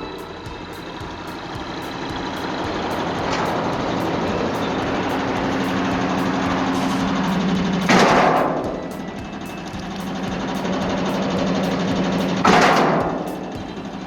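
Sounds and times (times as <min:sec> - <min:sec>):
branch chipper engine drone: 0:00.0 - 0:14.0
steady hum: 0:00.0 - 0:14.0.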